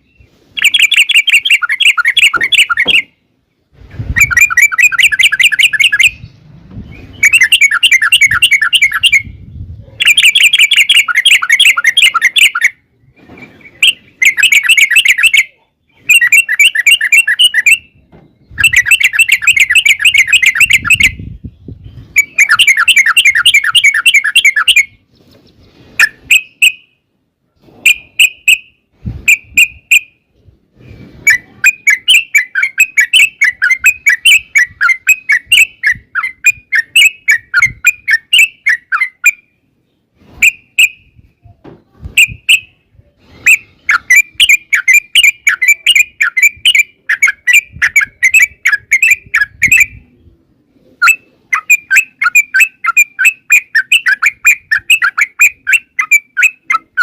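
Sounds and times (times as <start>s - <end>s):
bird singing chattering phrases: 0.0s - 26.9s, 29.3s - 41.2s, 42.2s - 57.0s
bird chirps: 0.0s - 27.1s, 27.8s - 41.3s, 42.2s - 57.0s.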